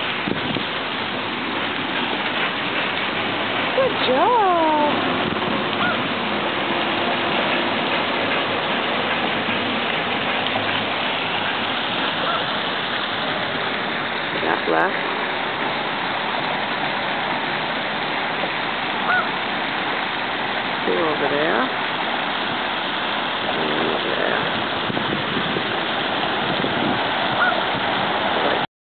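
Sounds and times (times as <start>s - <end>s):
fountain spray splashing on water: 0.0s - 28.7s.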